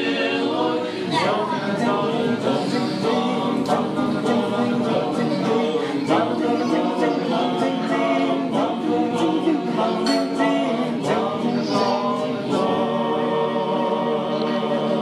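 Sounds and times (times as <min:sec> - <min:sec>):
male choir singing a cappella: 0:00.0 - 0:15.0.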